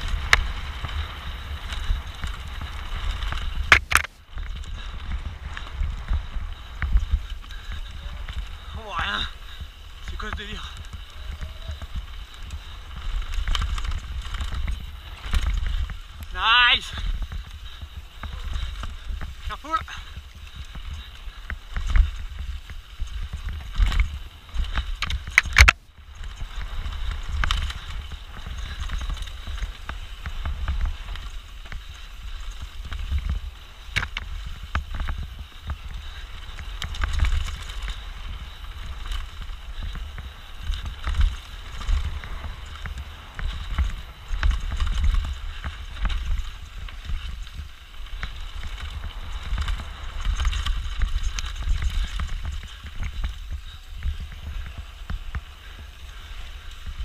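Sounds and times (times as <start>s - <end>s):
bike rattling: 0.0s - 57.0s
steady low rumble: 0.0s - 57.0s
tyre noise on trail: 0.0s - 57.0s.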